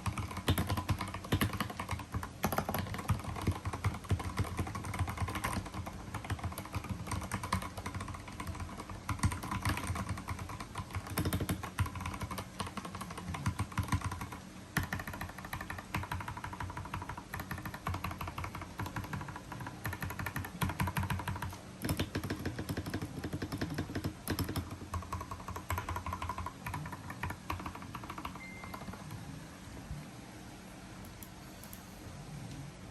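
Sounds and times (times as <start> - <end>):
mechanical keyboard typing: 0.0 - 29.2.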